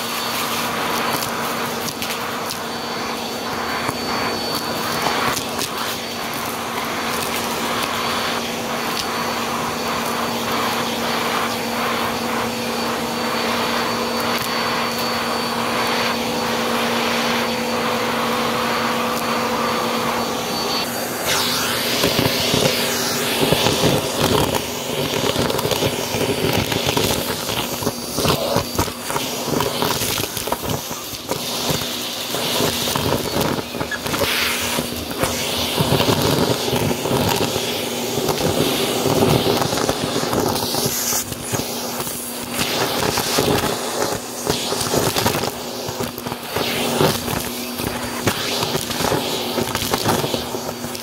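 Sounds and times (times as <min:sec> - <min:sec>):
vacuum cleaner motor hum: 0:00.0 - 0:51.0.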